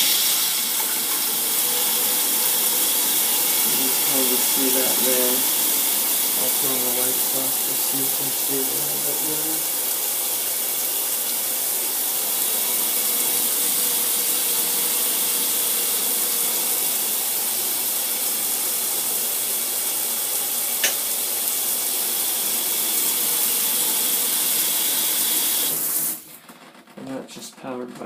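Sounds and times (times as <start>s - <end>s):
shower water spray hissing: 0.0s - 26.3s.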